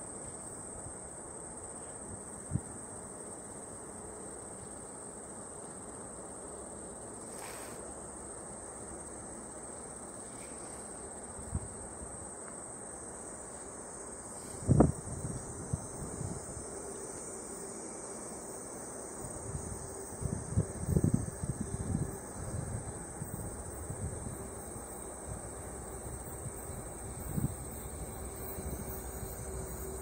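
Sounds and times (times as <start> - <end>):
faint hiss: 0.0 - 30.0
insects chirring: 0.0 - 30.0.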